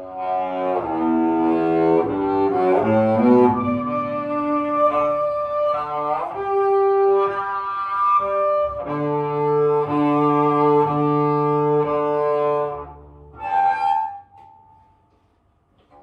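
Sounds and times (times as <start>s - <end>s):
bowed double bass: 0.0s - 14.8s
bass clarinet long notes: 0.0s - 14.9s.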